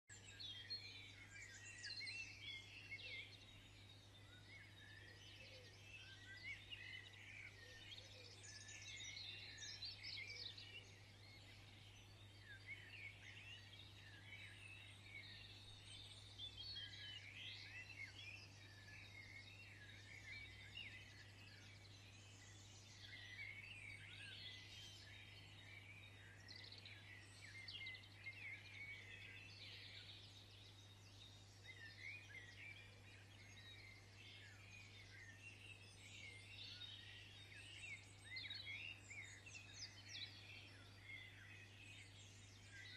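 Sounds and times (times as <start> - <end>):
faint birdsong chirps: 0.0 - 42.9.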